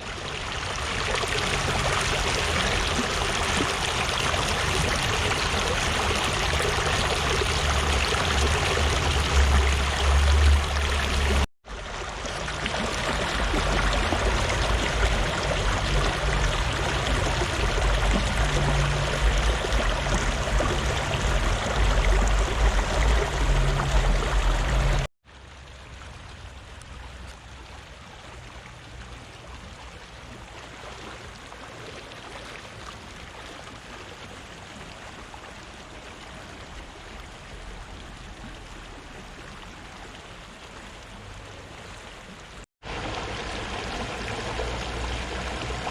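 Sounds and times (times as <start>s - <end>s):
river water rushing: 0.0s - 26.9s, 30.1s - 45.9s.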